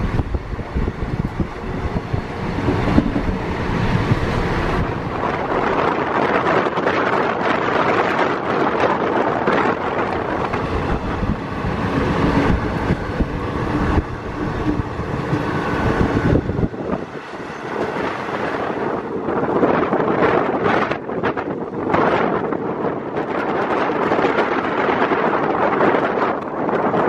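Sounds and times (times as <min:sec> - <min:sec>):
train wheels rumbling on rails: 0:00.0 - 0:27.0
wind buffeting microphone: 0:00.0 - 0:27.0.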